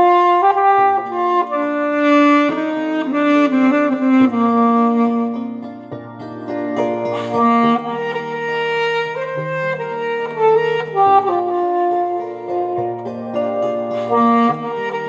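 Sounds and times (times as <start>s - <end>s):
saxophone slow melody: 0.0s - 15.0s
sustained musical accompaniment: 0.0s - 15.0s.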